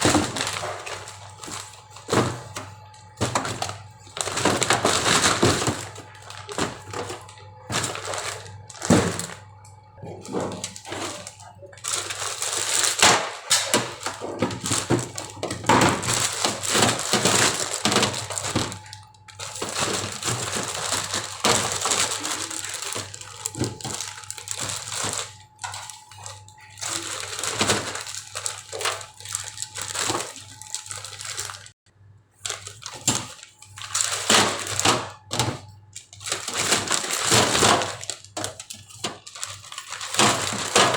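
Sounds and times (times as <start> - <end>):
food packaging crinkling: 0.0 - 31.8, 32.4 - 40.9.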